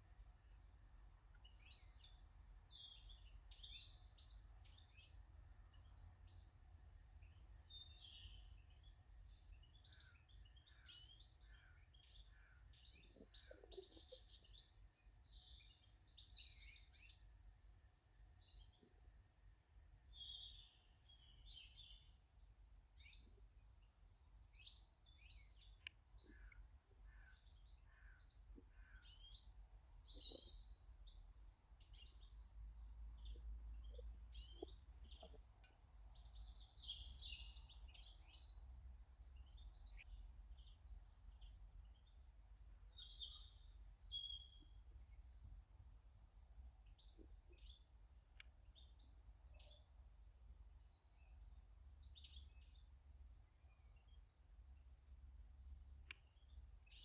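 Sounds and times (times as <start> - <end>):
birds chirping and twittering: 0.0 - 57.0.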